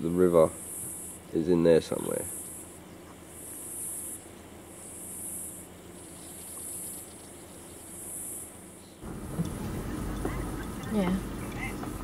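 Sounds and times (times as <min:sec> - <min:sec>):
insects buzzing in pulses: 0:00.1 - 0:11.9.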